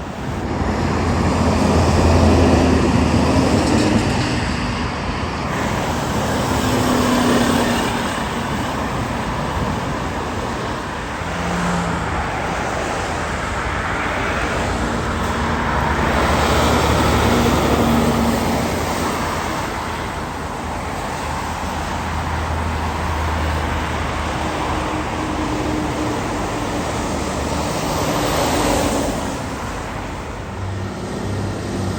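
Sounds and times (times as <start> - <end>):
road traffic passing: 0.0 - 31.9.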